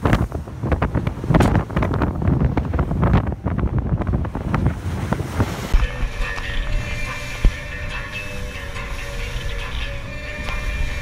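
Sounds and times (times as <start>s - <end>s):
water rushing and spray: 0.0s - 11.0s
wind buffeting microphone: 0.0s - 11.0s.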